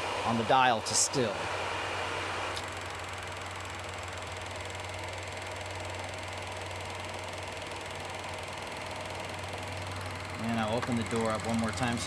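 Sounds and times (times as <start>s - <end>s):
film projector running: 0.0s - 12.0s.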